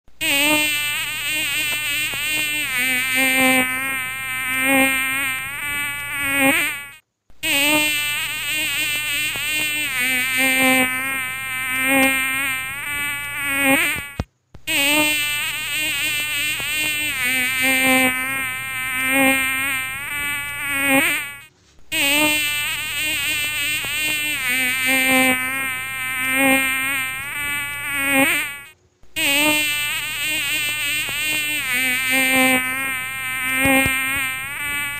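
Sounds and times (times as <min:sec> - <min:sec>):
mosquito whine: 0:00.1 - 0:34.9.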